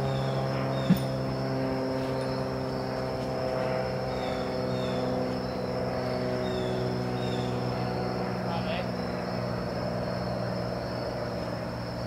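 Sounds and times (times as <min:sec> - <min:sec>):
high insect-like drone: 0:00.0 - 0:12.0
steady low hum: 0:00.0 - 0:12.0.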